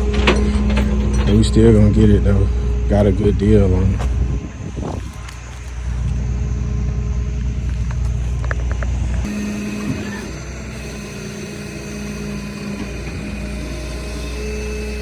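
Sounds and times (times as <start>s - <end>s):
steady hum: 0.0s - 15.0s
vehicle engine rumbling: 0.0s - 15.0s.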